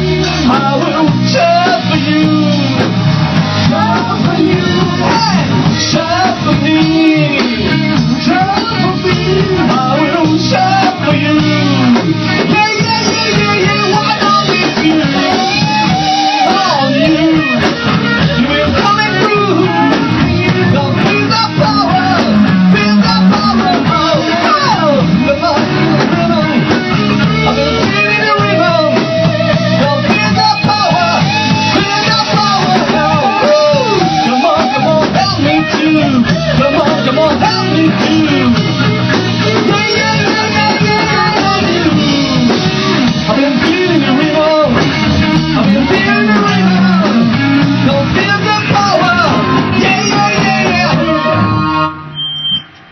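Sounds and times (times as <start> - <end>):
person singing: 0.0 - 52.1
drum kit: 0.0 - 52.9
electric guitar: 0.0 - 52.9.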